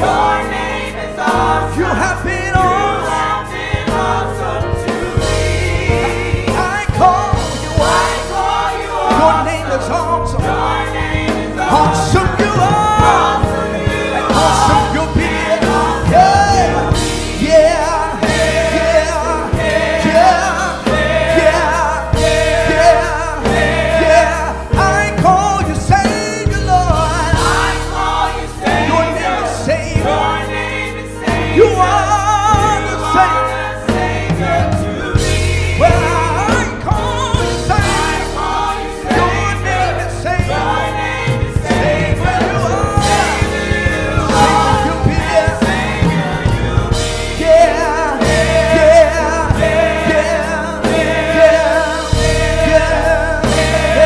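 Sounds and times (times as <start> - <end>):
gospel choir singing with band: 0.0 - 54.0.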